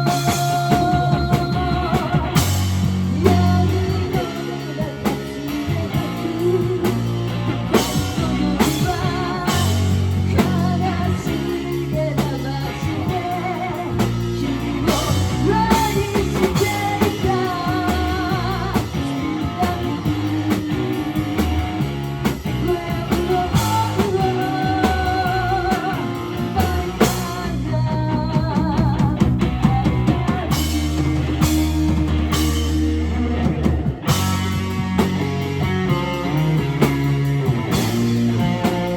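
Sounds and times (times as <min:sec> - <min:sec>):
person singing: 0:00.0 - 0:34.3
bass guitar: 0:00.0 - 0:38.9
drum kit: 0:00.0 - 0:38.9
electric guitar: 0:00.0 - 0:38.9.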